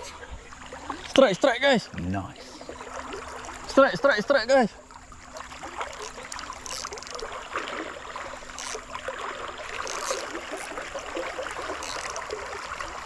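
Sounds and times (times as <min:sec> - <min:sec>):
stream trickling over rocks: 0:00.0 - 0:13.0.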